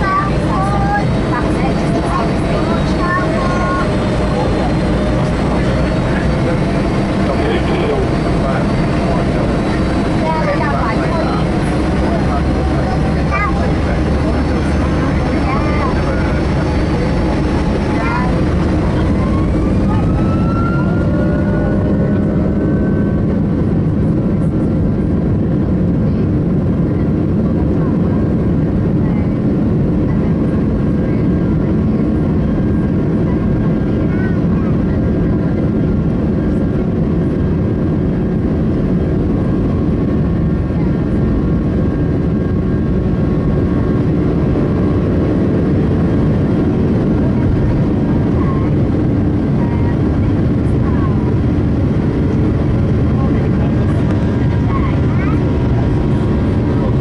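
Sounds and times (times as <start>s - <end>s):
jet engines rumbling inside cabin: 0.0s - 57.0s.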